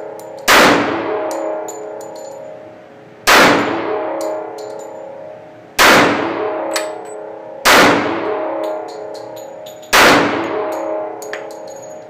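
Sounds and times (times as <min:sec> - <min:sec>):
pistol shots echoing indoors: 0:00.0 - 0:02.4, 0:03.2 - 0:12.0.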